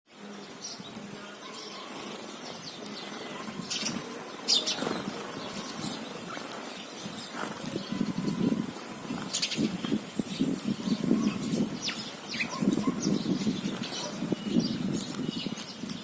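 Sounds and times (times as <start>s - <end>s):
sparrows chirping: 0.1s - 16.0s.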